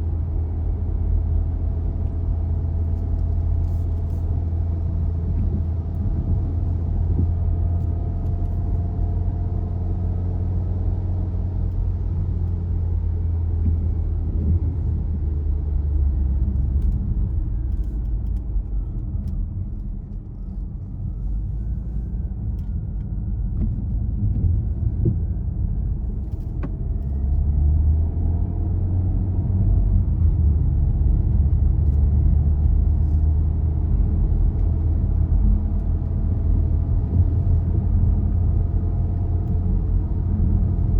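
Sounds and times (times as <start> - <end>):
car engine and tyres rumbling: 0.0 - 40.9.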